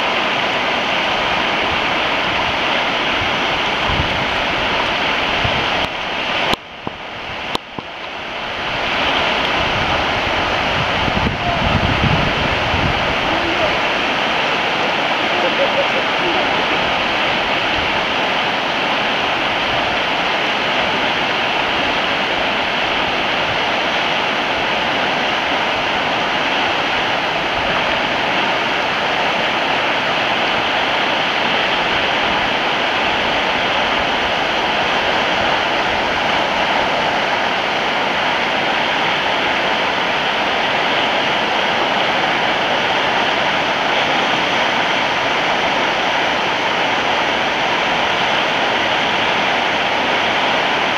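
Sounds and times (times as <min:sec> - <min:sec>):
river rapids rushing: 0:00.0 - 0:50.9.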